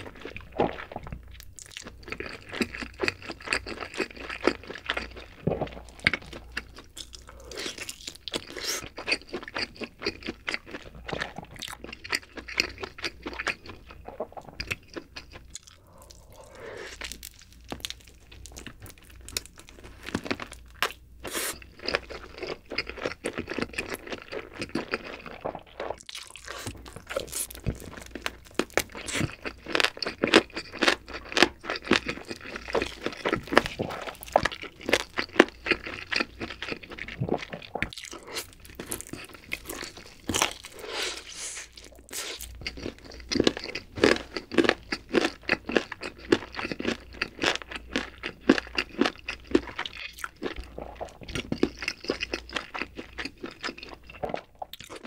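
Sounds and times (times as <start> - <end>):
crunchy chewing and mouth smacks: 0.0 - 55.0.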